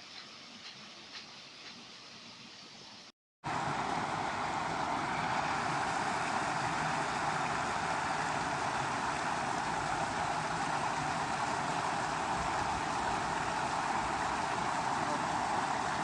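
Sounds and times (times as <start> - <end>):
flowing river water: 2.4 - 16.0.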